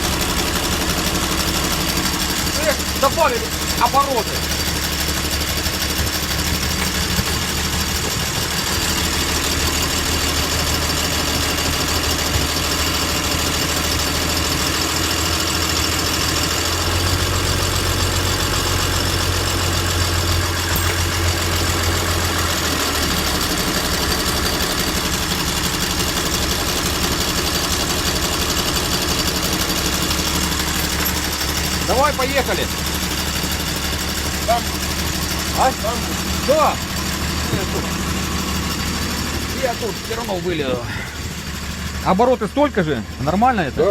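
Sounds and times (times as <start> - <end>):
boat diesel engine idling: 0.0 - 43.9.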